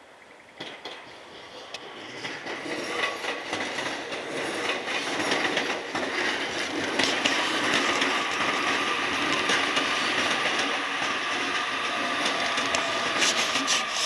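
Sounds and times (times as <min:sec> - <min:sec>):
electric train on rails: 0:00.0 - 0:14.0.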